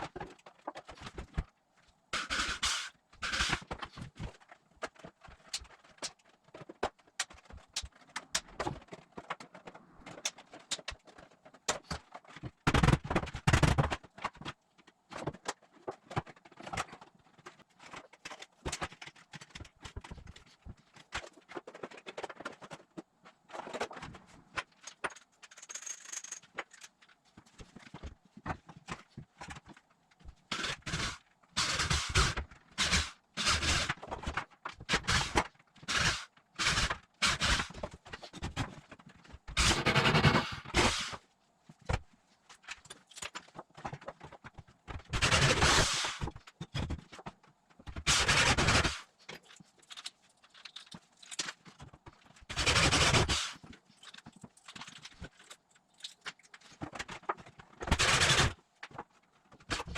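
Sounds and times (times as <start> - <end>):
sharp clicks and crackles: 2.2 - 41.2, 41.8 - 59.9.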